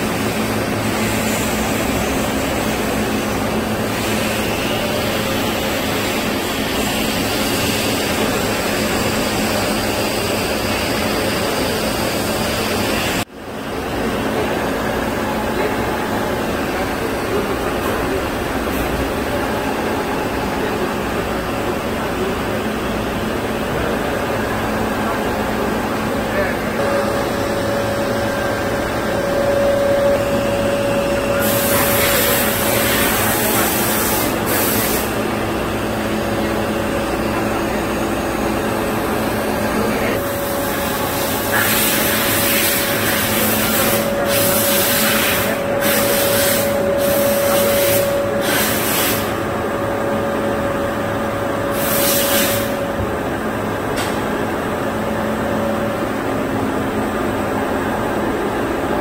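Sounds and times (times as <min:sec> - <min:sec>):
boring machine humming: 0:00.0 - 0:59.0.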